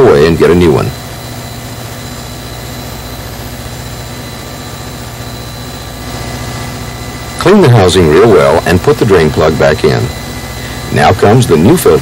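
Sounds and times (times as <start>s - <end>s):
faint high whine: 0.0s - 12.0s
machinery low drone: 0.0s - 12.0s.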